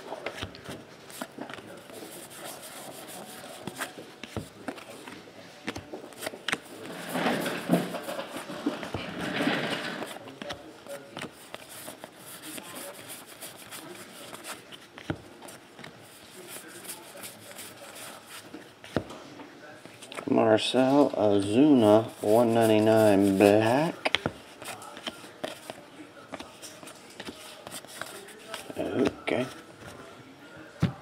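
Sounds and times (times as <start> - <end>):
trading cards sliding and rubbing: 0.1 - 19.1, 20.8 - 29.6.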